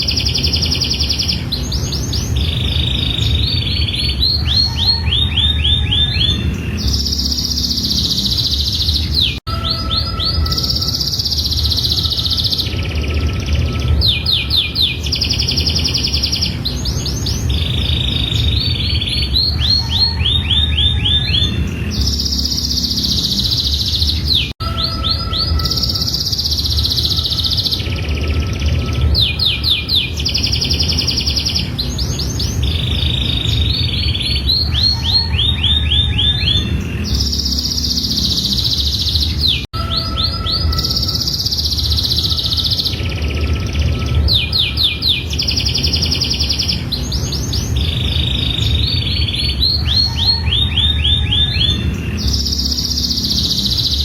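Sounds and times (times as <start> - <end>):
steady low hum: 0.0 - 39.7, 40.6 - 54.0
canary singing trills: 0.0 - 54.0.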